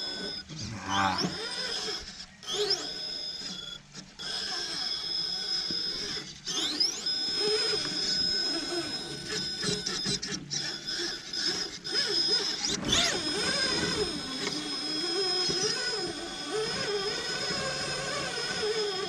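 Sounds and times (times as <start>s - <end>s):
electric motor whining under load: 0.0s - 19.0s.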